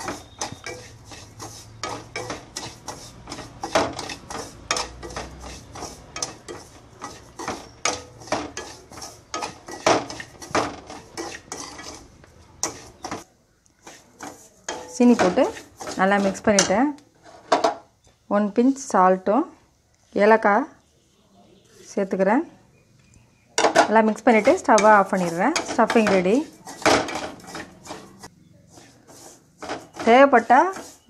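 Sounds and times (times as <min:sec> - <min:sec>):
spoon scraping metal pan: 0:00.0 - 0:17.9, 0:23.6 - 0:31.0.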